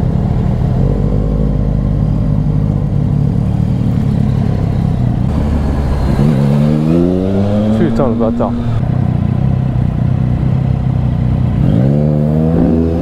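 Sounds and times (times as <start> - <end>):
motorcycle engine idling: 0.0 - 6.7, 7.6 - 11.6.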